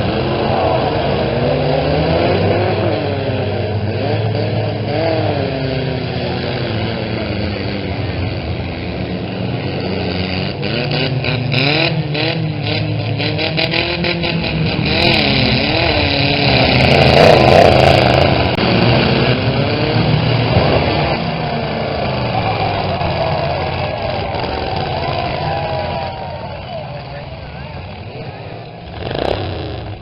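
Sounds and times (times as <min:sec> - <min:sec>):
truck engines revving: 0:00.0 - 0:30.0.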